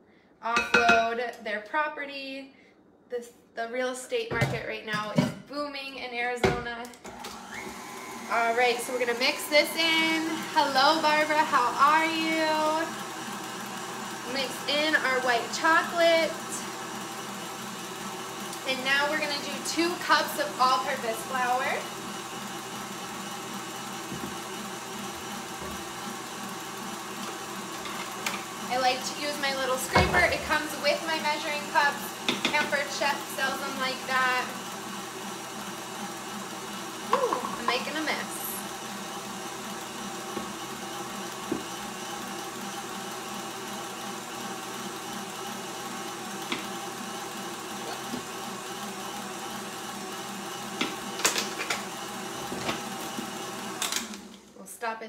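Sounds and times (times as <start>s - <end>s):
electric stand mixer running: 7.0s - 54.6s.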